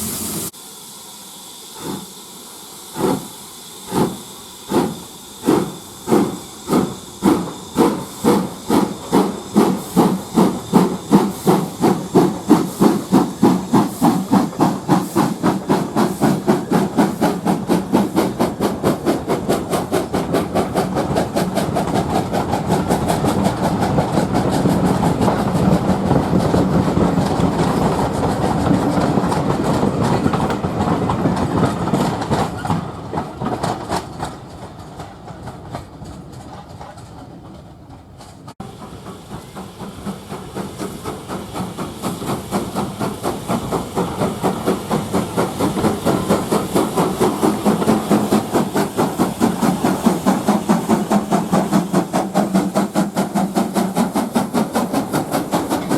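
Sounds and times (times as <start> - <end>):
train running rhythmic beat: 2.9 - 55.9.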